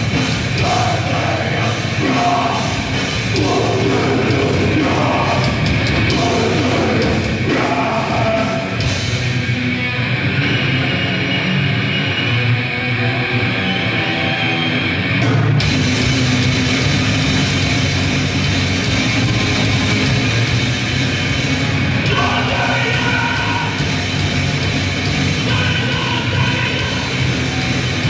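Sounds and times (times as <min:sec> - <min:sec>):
distorted guitar: 0:00.0 - 0:28.0
grindcore band playing live: 0:00.0 - 0:28.0.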